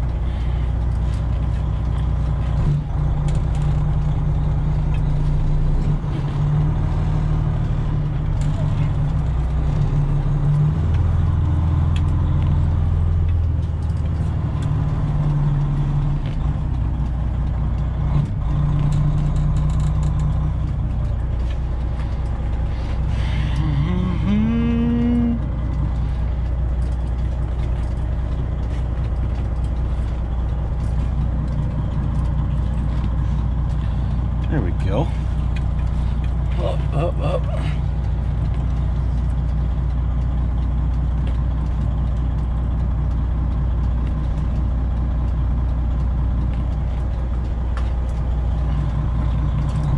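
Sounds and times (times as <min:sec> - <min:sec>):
diesel truck engine droning: 0:00.0 - 0:49.9.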